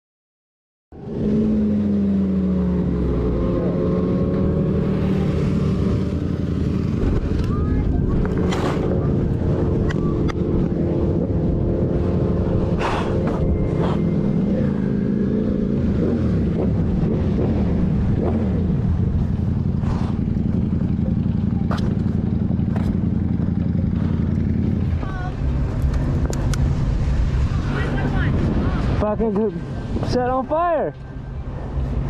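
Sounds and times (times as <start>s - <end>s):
vehicle engine running: 0.9s - 32.0s.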